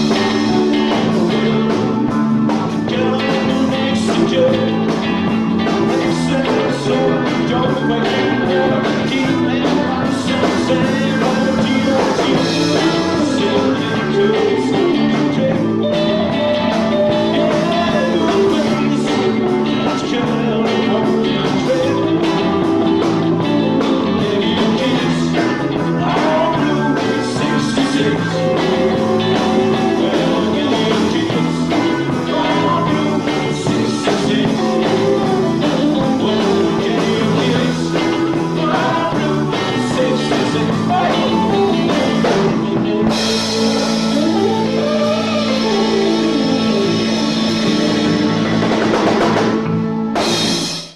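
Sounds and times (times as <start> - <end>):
guitar-led rock music: 0.0 - 50.9.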